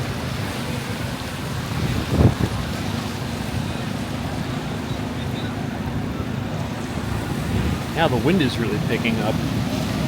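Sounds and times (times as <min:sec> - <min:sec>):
city street noise: 0:00.0 - 0:10.0
wind buffeting microphone: 0:00.0 - 0:10.0.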